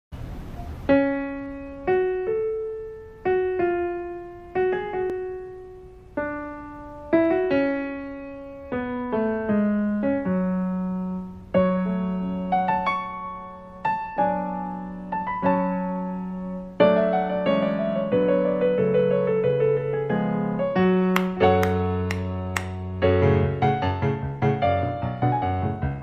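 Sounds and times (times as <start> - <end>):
slow gentle piano melody: 0.2 - 26.0.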